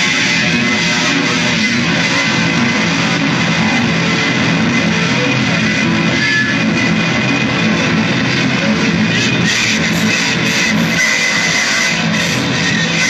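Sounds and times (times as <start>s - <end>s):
loud guitar music: 0.0s - 13.0s.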